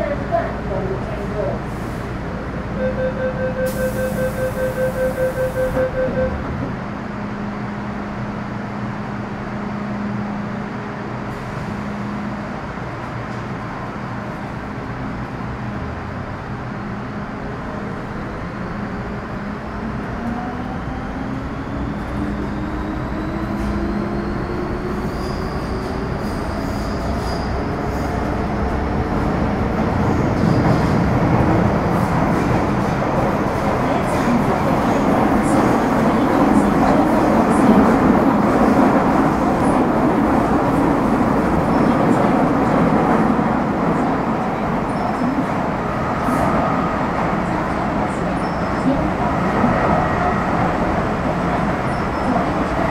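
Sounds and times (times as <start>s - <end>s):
train wheel and running noise: 3.6s - 52.9s.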